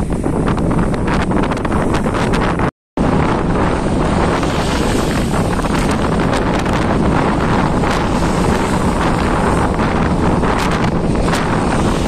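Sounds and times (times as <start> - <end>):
wind buffeting microphone: 0.0 - 12.0
storm waves breaking against wall: 1.1 - 12.0.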